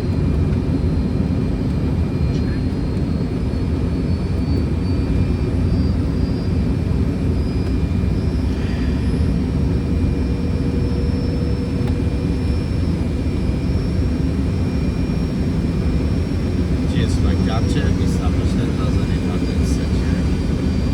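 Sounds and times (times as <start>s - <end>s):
airflow rush and engine drone: 0.0s - 20.9s.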